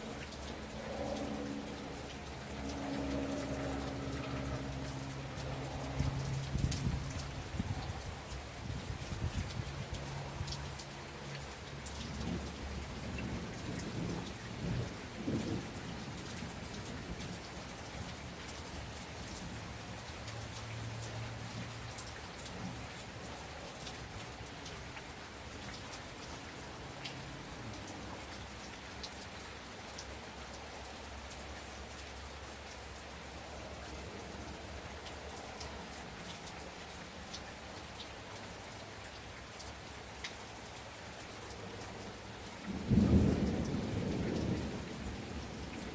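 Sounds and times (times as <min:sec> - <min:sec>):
rain hiss: 0:00.0 - 0:45.9.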